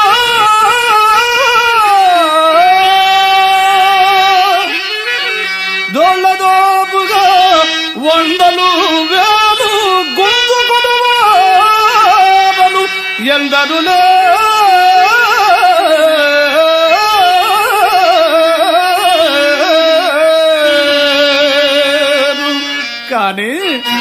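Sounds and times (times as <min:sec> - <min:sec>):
man singing through a microphone: 0:00.0 - 0:24.0.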